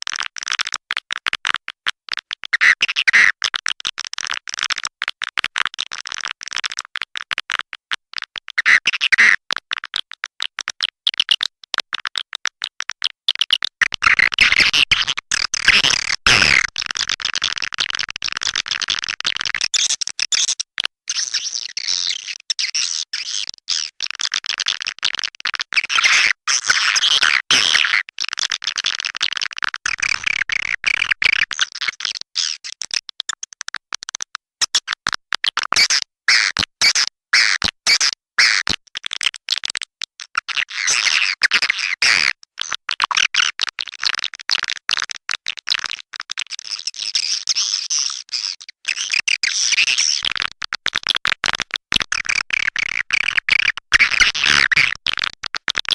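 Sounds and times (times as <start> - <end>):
rapid bird chirps and clicks: 2.1 - 48.2, 48.9 - 55.9.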